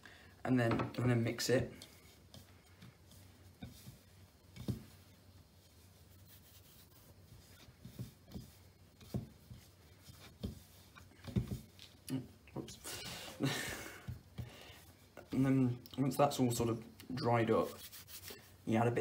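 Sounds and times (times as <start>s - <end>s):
hands squishing dough: 1.0s - 18.6s.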